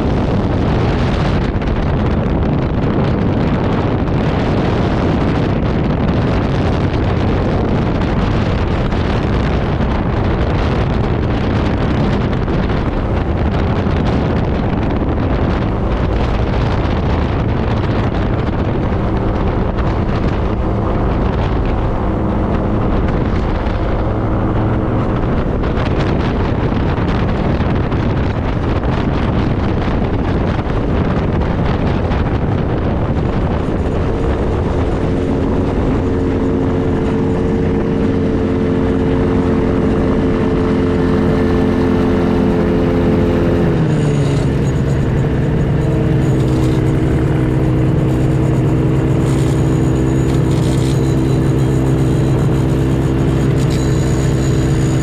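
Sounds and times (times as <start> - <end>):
aircraft engine and propeller: 0.0 - 55.0
rushing wind: 0.0 - 55.0.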